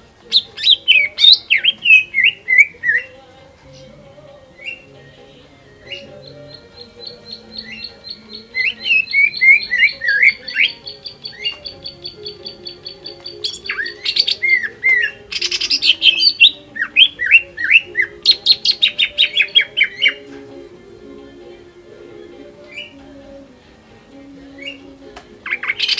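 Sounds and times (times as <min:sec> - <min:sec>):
bird singing trills and whistles: 0:00.3 - 0:05.0, 0:05.7 - 0:20.3, 0:22.6 - 0:23.0, 0:24.6 - 0:25.9.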